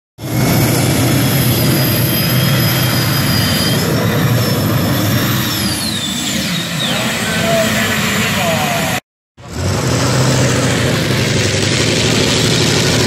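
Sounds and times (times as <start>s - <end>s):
tractor engine with high whine: 0.2s - 13.0s.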